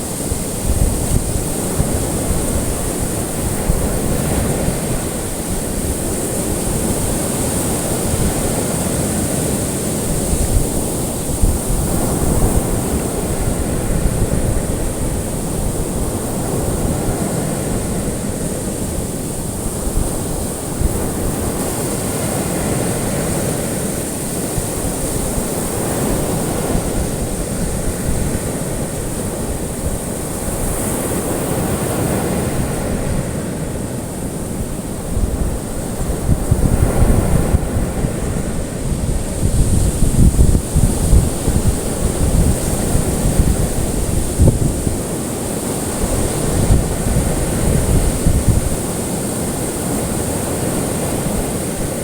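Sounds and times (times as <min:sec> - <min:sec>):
ocean waves surf: 0:00.0 - 0:52.0.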